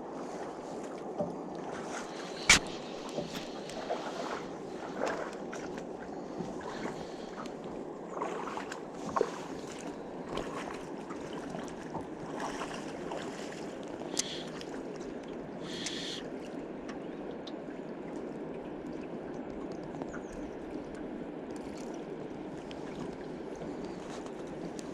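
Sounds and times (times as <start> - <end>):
river water lapping and gurgling: 0.0 - 24.9.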